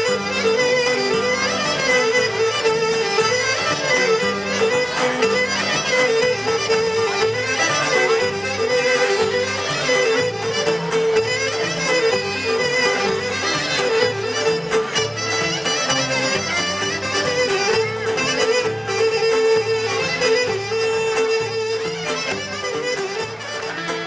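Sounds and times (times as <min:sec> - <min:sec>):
folk dance music: 0:00.0 - 0:24.0.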